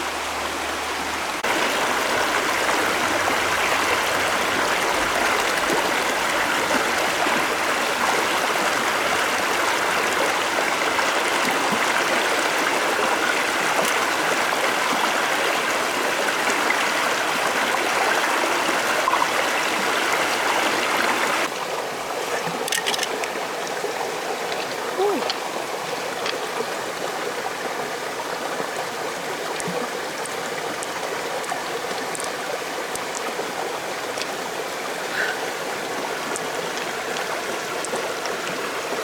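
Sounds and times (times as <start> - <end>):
stream water flowing: 0.0 - 39.0.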